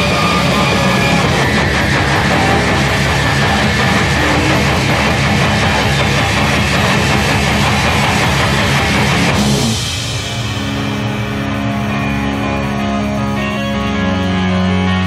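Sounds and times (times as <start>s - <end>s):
held guitar chords ringing: 0.0s - 15.0s
rock music with electric guitar: 0.0s - 15.0s.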